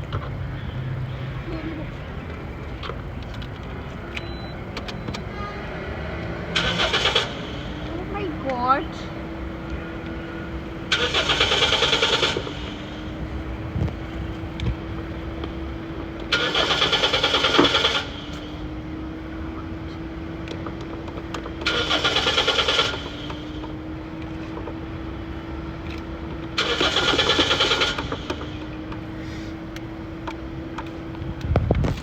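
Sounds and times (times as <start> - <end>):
steady whine: 0.0 - 32.0
car starter cranking engine: 0.1 - 5.5, 6.1 - 18.8, 20.4 - 24.9, 25.7 - 31.2.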